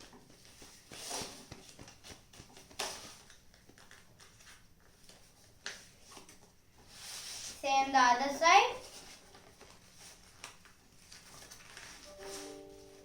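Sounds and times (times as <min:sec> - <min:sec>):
paper rustling and crinkling: 0:00.0 - 0:07.6, 0:08.7 - 0:13.0.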